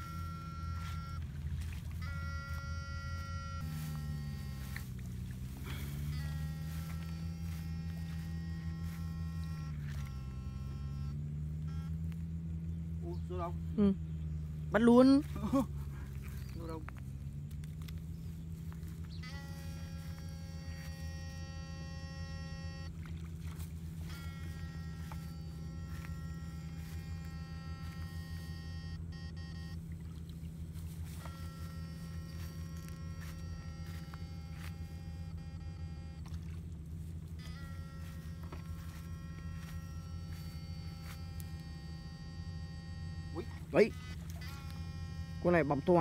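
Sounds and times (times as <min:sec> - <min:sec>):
high many-toned whine: 0:00.0 - 0:46.0
low electrical hum: 0:00.0 - 0:46.0.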